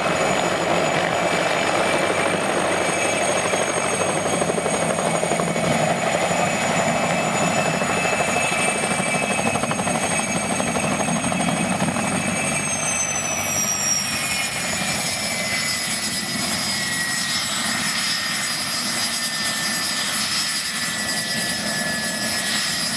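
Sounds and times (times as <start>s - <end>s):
helicopter engines and rotor: 0.0s - 22.9s.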